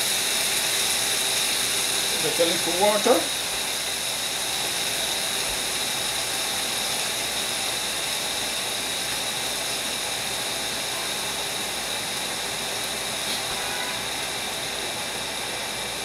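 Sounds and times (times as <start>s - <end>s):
microwave vent fan running: 0.0s - 16.0s.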